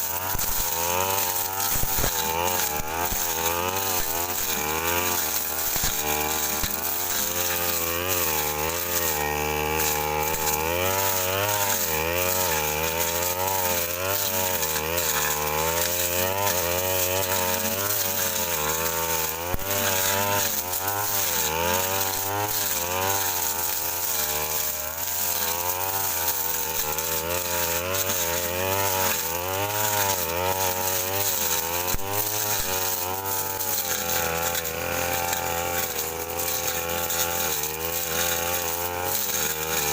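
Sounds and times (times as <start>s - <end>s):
brush cutter cutting brush: 0.0s - 39.9s.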